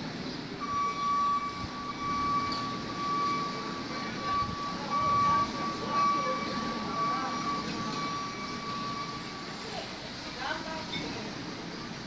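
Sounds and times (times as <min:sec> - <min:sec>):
heavy construction machine engine rumble: 0:00.0 - 0:12.0
reversing alarm beeping: 0:00.6 - 0:12.0.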